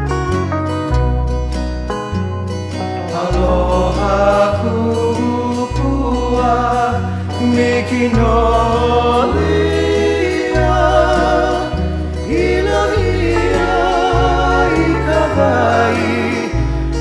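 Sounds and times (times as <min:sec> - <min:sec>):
bass notes: 0:00.0 - 0:17.0
song with singing voice: 0:02.8 - 0:17.0.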